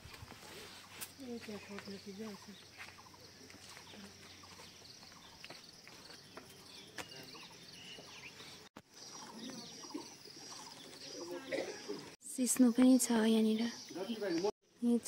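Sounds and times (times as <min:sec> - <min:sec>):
faint bird and insect chirps: 0:00.0 - 0:15.0.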